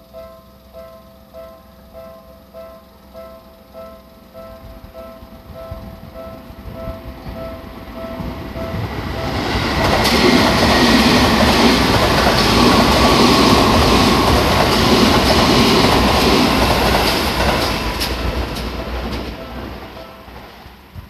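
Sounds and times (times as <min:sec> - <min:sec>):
electric train passing: 0:00.0 - 0:21.0
wheel and rail noise: 0:00.0 - 0:21.0.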